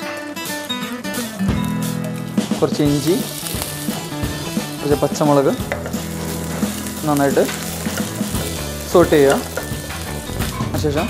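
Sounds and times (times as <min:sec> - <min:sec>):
plucked acoustic guitar music: 0:00.0 - 0:10.9.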